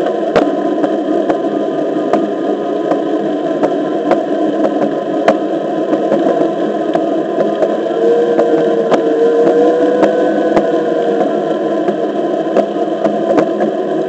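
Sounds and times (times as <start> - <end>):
faint hub motor whine: 0.0 - 14.0.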